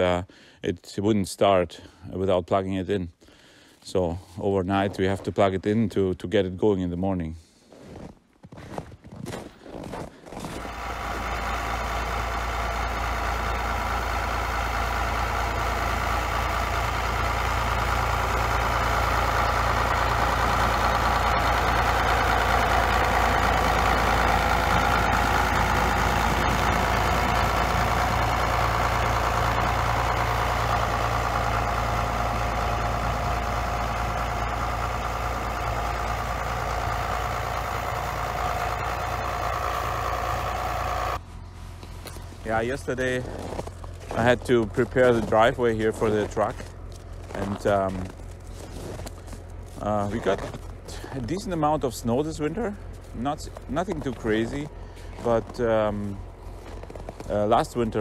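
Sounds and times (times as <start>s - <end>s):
diesel tractor engine idling: 10.4s - 58.0s.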